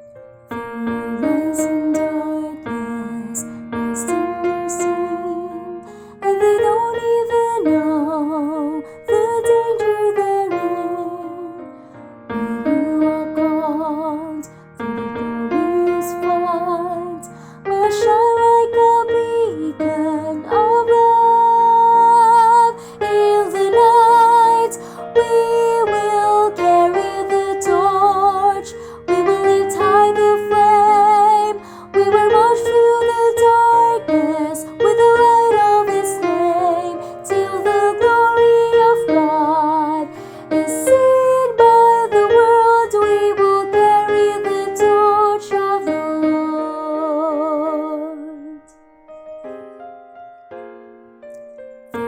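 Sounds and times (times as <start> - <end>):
piano accompaniment: 0.0 - 52.0
woman singing with vibrato: 0.6 - 11.6, 12.3 - 14.5, 15.1 - 48.7.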